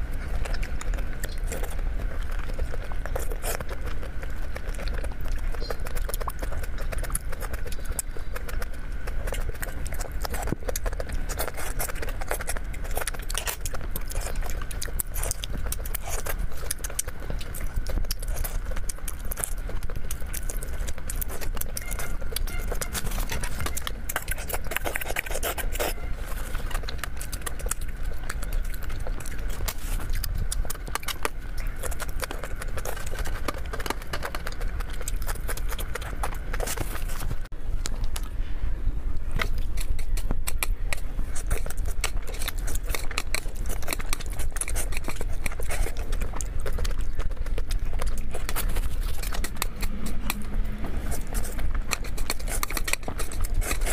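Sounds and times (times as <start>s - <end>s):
chewing and crunching shrimp: 0.0s - 53.9s.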